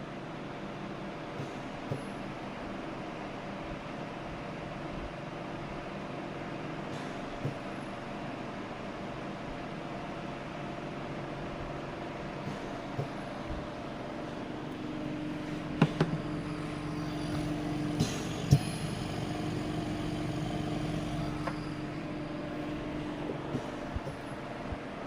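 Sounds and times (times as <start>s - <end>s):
compressor hum: 0.0s - 25.0s.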